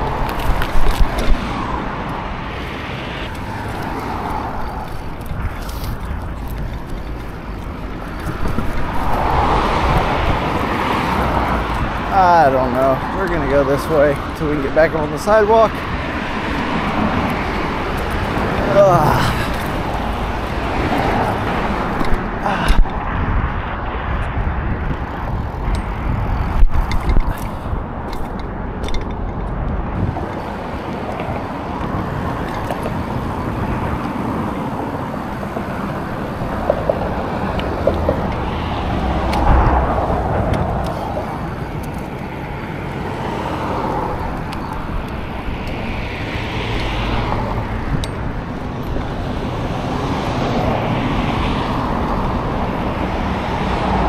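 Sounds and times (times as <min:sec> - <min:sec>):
cars passing close by: 0:00.0 - 0:54.0.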